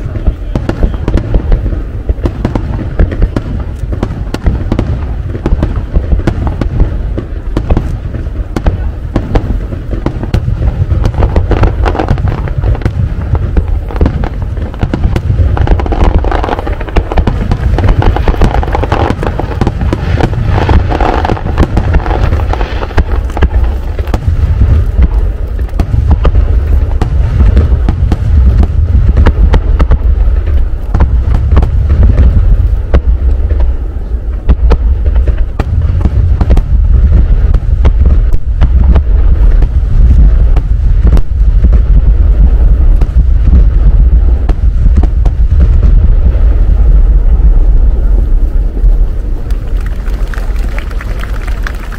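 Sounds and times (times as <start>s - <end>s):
fireworks bursting with sharp bangs: 0.0s - 51.9s
low rumble: 0.0s - 51.9s.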